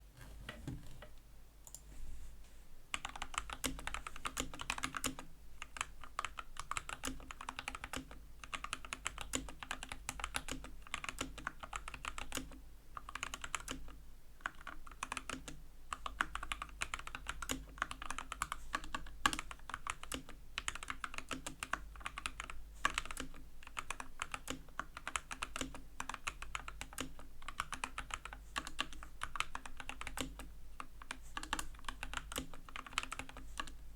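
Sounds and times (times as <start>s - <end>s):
fast typing on mechanical keyboard: 3.0s - 33.8s.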